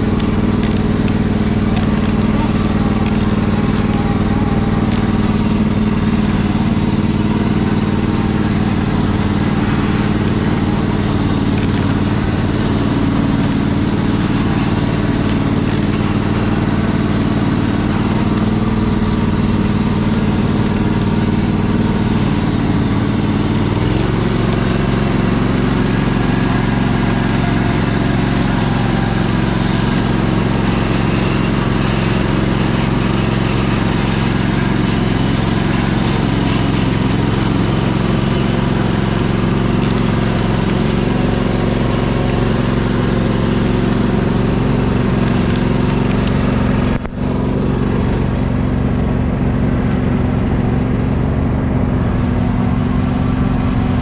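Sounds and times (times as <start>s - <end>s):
riding lawn mower engine running: 0.0s - 54.0s.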